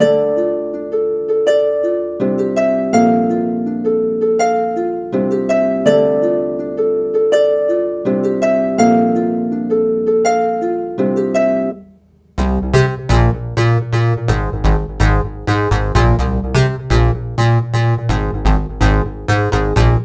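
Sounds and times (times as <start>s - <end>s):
r and b loop with plucked notes: 0.0s - 20.0s.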